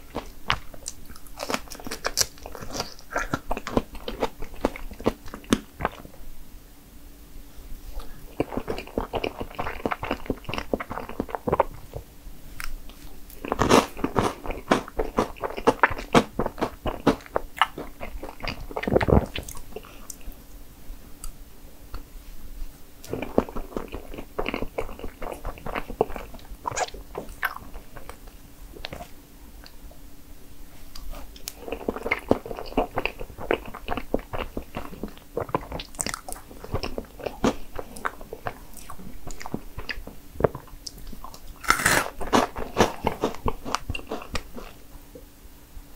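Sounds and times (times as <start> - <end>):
person chewing: 0.0 - 6.2, 7.9 - 12.0, 12.6 - 20.4, 23.0 - 29.8, 30.9 - 44.8.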